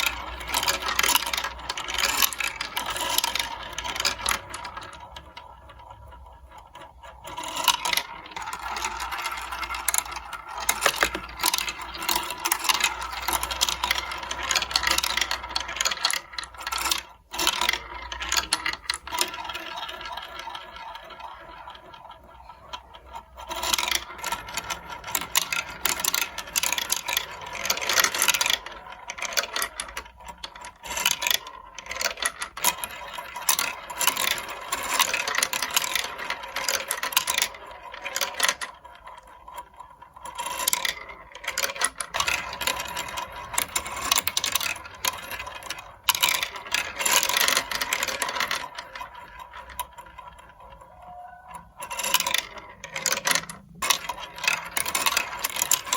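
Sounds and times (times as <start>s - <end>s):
marbles rattling on plastic track: 0.0s - 55.9s.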